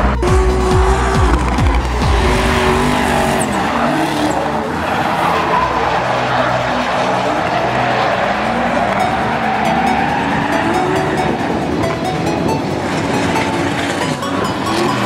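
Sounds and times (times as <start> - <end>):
car engines revving: 0.0 - 15.0
electronic trance music: 0.0 - 15.0
tyres squealing: 0.0 - 15.0.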